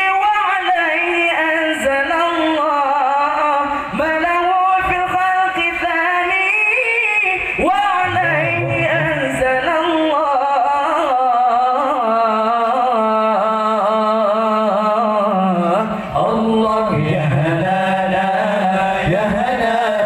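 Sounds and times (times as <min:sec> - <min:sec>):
young men singing devotional song: 0:00.0 - 0:20.0.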